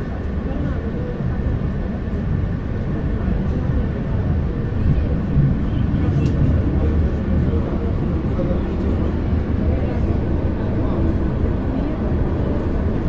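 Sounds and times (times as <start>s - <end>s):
low rumble of funicular car: 0.0s - 13.0s.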